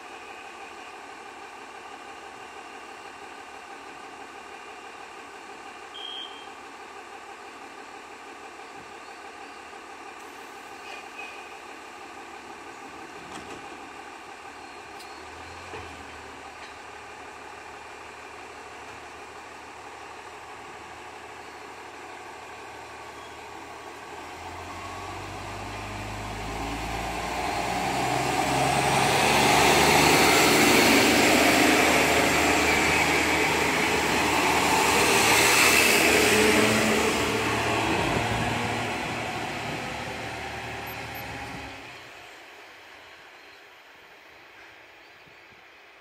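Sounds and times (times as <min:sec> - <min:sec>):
diesel railcar engine: 0:00.0 - 0:46.0.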